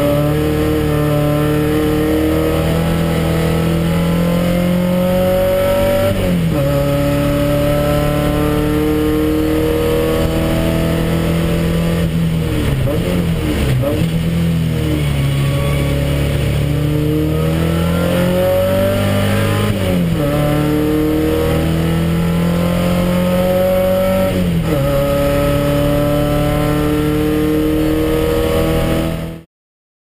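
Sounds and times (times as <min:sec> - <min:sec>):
race car engine accelerating: 0:00.0 - 0:29.4.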